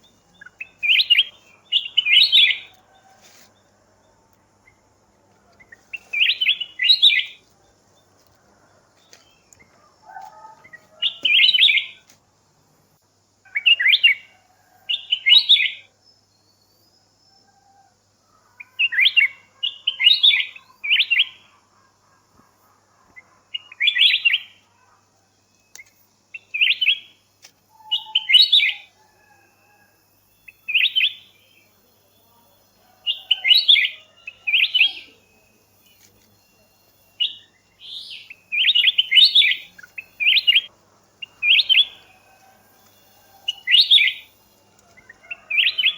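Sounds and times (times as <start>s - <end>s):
songbird chirping: 0.0s - 45.9s.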